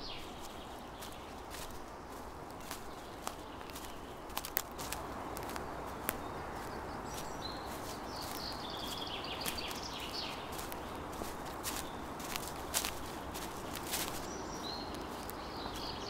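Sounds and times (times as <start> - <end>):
footsteps crunching on leaves: 0.0 - 16.0.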